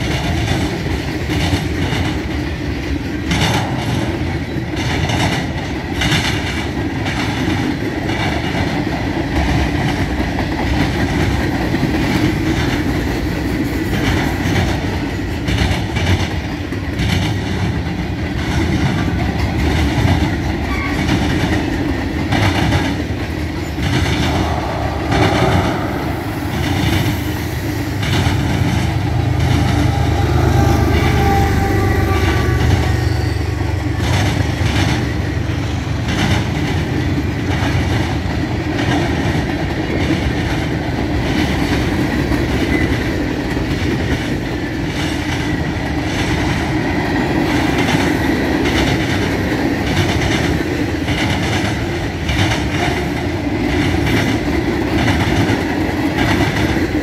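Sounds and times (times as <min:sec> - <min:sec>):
wheels clicking over rail joints: 0:00.0 - 0:24.8, 0:27.7 - 0:57.0
freight train rumbling past: 0:00.0 - 0:57.0.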